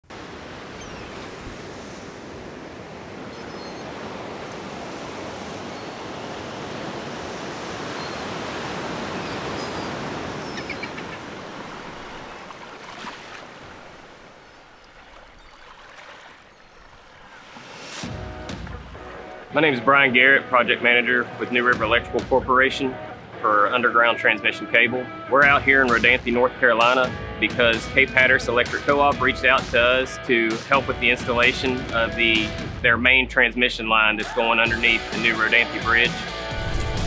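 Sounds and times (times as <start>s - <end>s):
surf washing in: 0.1s - 32.6s, 34.2s - 37.0s.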